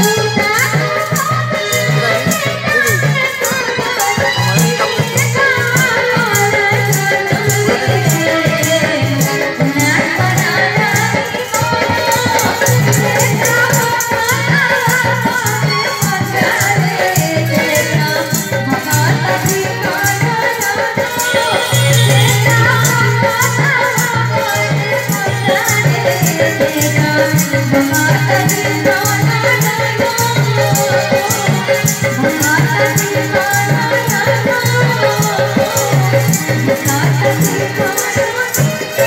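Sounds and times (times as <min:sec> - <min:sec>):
accompanying instruments: 0:00.0 - 0:39.0
woman singing into microphone: 0:00.0 - 0:39.0.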